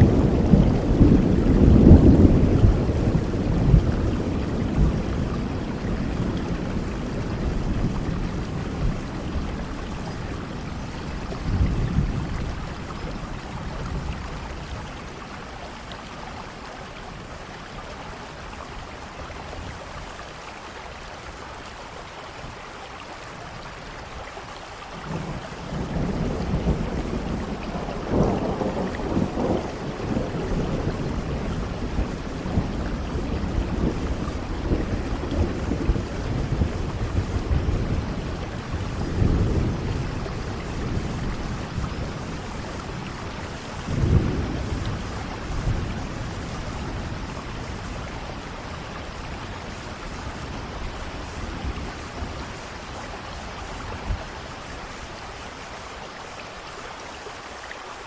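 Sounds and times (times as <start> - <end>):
rolling thunder: 0.0 - 16.5, 25.0 - 55.3
steady rain: 0.0 - 58.0.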